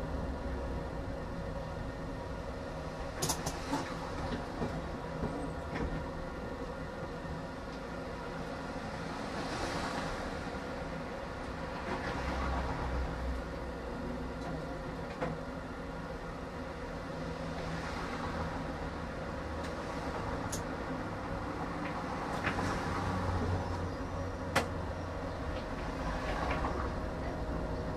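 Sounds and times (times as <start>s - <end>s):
tram rumble and hum: 0.0s - 27.9s.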